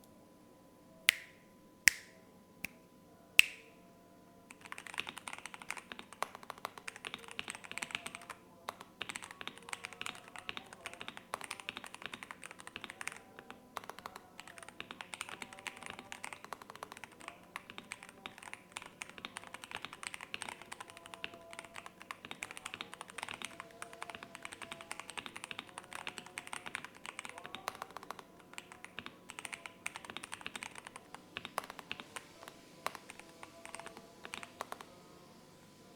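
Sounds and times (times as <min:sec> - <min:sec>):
fast keyboard typing: 0:04.5 - 0:35.0.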